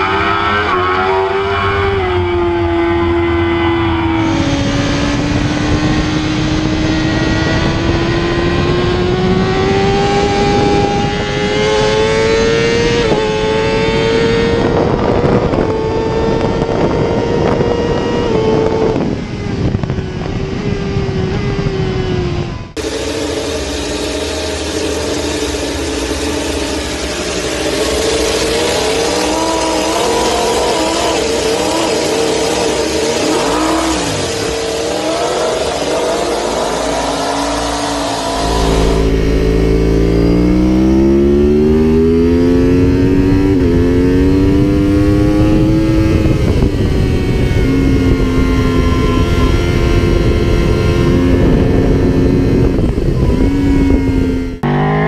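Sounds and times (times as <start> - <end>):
motorcycle accelerating hard: 0.0 - 55.0
motorcycle engine revving: 0.0 - 55.0.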